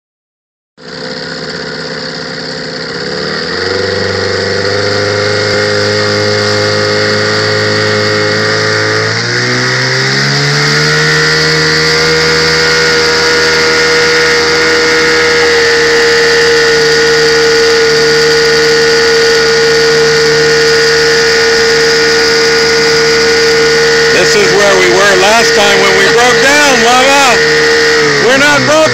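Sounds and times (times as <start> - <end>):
outboard motor running: 0.8 - 28.9.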